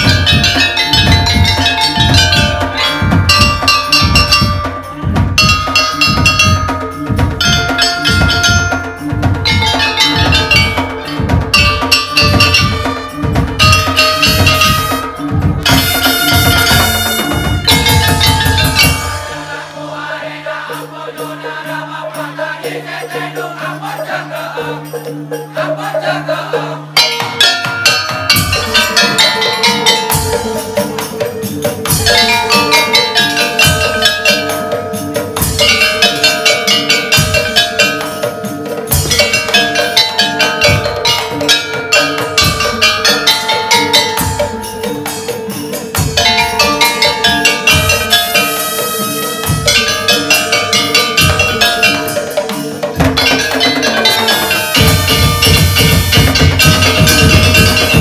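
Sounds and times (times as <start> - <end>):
ringing gong chime melody: 0.0 - 20.2, 27.0 - 58.0
barrel drums beating: 0.0 - 21.1, 27.0 - 58.0
steady held tones: 0.0 - 21.4, 26.9 - 58.0.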